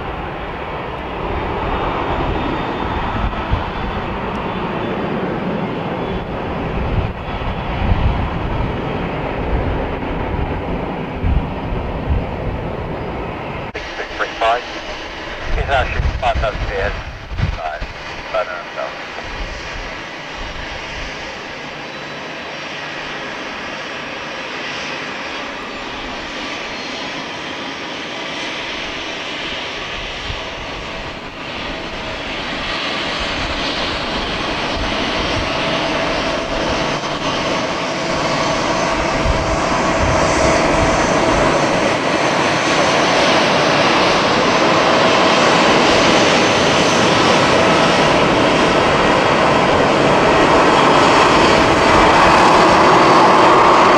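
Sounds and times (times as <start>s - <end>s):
jet engine hum: 0.0s - 53.9s.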